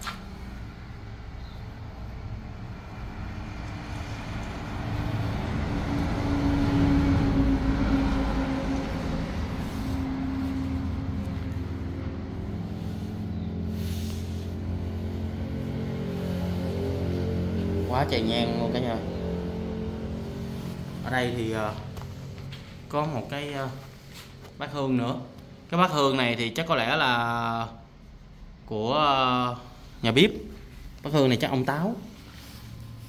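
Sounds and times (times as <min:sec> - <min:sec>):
vehicle engine drone and road noise: 0:00.0 - 0:33.0.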